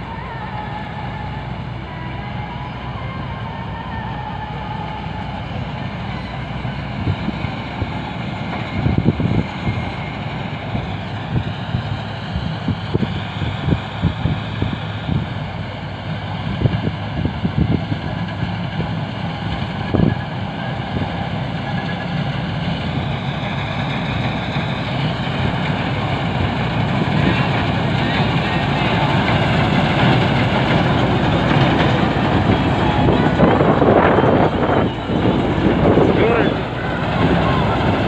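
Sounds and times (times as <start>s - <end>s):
combine harvester engine hum: 0.0s - 38.0s.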